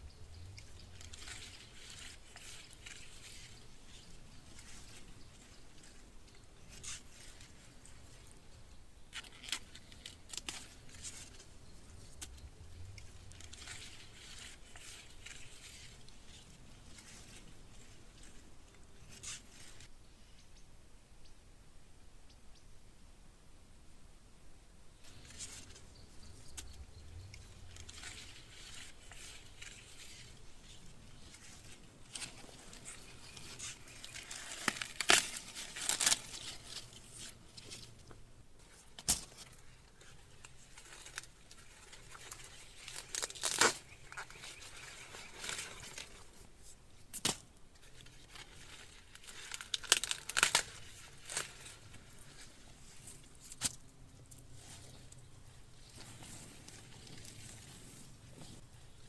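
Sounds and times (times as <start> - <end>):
corn husks rustling and tearing: 0.0 - 20.0, 25.0 - 59.0.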